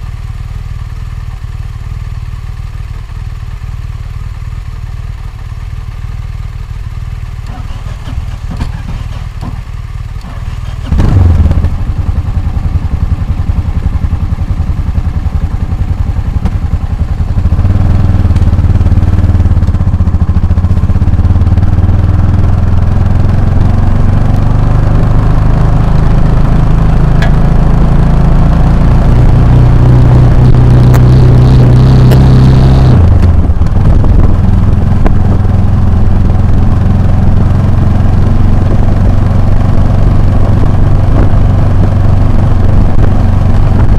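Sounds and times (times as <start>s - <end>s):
motorcycle engine revving: 2.0s - 43.9s.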